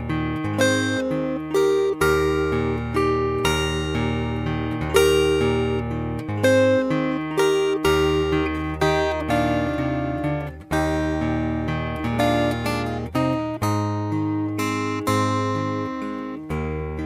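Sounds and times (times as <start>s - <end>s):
acoustic guitar picked notes: 0.0s - 17.0s.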